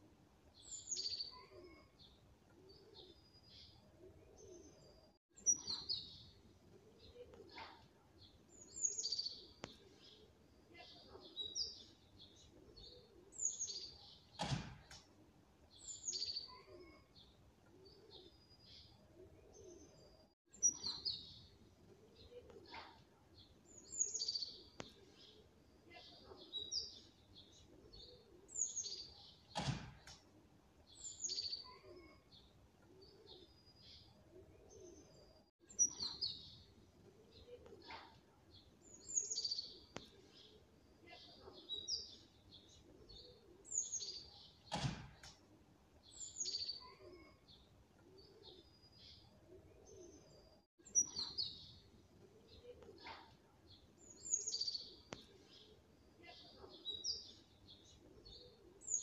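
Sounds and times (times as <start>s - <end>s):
small birds chirping: 0.5s - 59.0s.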